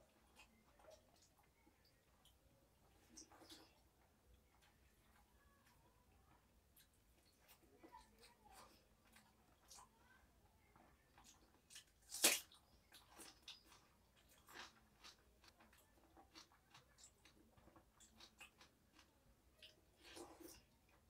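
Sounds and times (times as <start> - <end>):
wet chewing and mouth clicks: 0.0 - 5.3, 6.6 - 10.0, 10.8 - 21.0.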